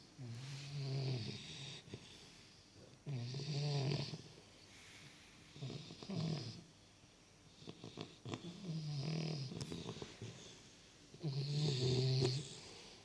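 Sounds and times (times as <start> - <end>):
quiet breathing: 0.0 - 13.0
puppy snoring: 0.2 - 4.4, 5.5 - 6.7, 7.5 - 13.0.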